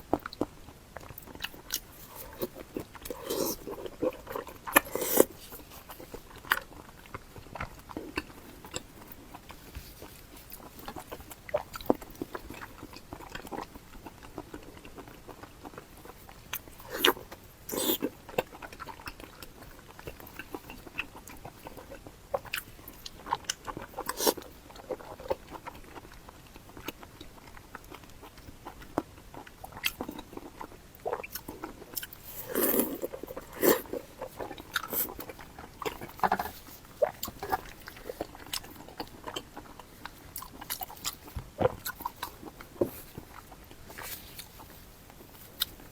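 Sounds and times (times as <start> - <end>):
person biting and chewing food: 0.1 - 45.9.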